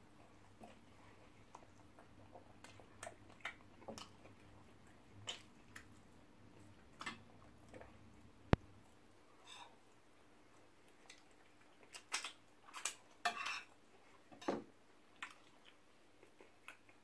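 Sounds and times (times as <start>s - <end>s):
wet chewing and lip-smacking: 0.2s - 9.0s, 9.9s - 13.2s, 15.0s - 17.0s.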